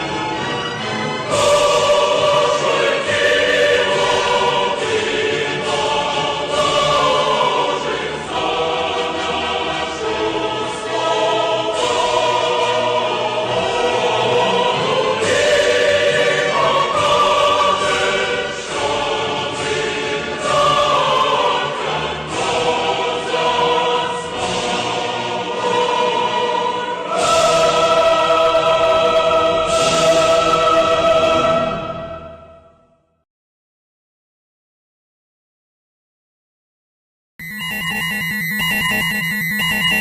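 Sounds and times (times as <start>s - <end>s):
choir singing: 0.0s - 32.9s.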